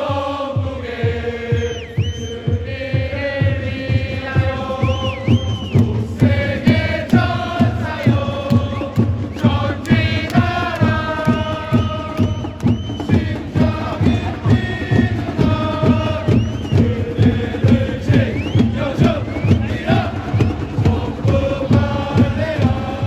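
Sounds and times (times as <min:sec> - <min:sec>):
bass drum beat: 0:00.0 - 0:23.0
crowd chanting in unison: 0:00.0 - 0:23.0.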